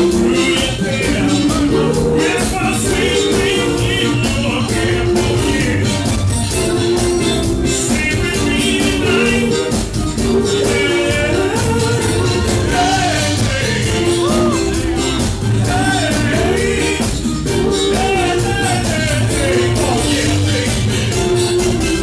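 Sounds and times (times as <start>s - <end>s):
live band playing dance-pop: 0.0s - 22.0s
person singing: 0.0s - 22.0s.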